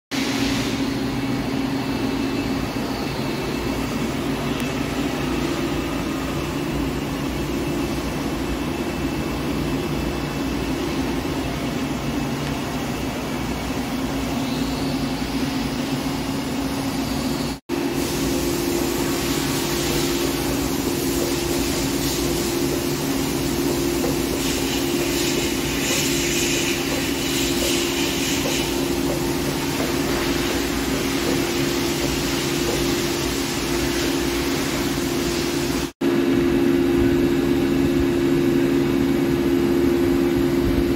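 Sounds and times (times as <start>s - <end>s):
lathe running hum: 0.2s - 40.9s.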